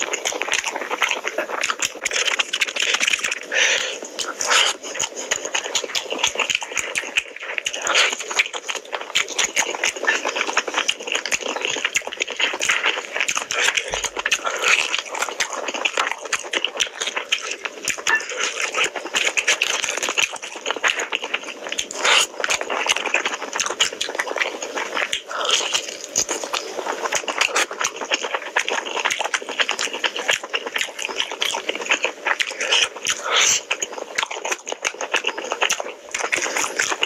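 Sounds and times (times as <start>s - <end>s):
wet chewing and lip smacking: 0.0s - 37.0s.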